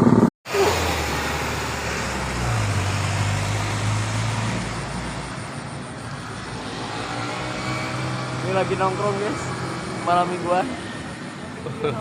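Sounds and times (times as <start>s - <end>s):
street noise: 0.0s - 12.0s
vehicle engines humming: 0.0s - 12.0s.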